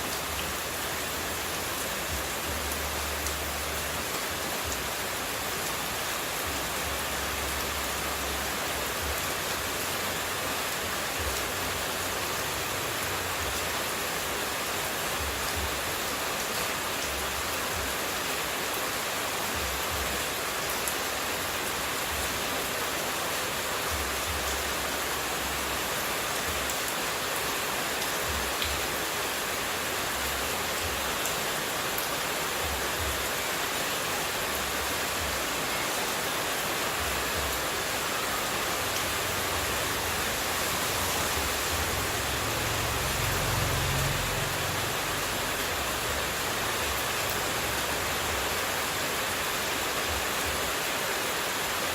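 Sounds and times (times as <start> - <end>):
running water rushing: 0.0 - 51.9.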